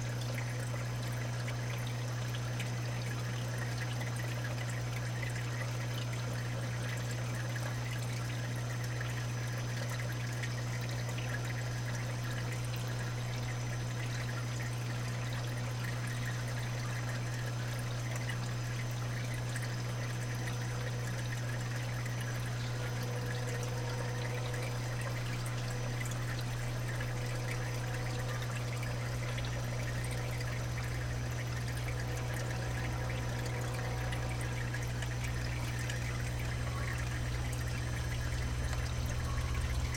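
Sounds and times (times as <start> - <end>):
constant low hum: 0.0 - 39.9
water trickling and pouring: 0.0 - 39.9.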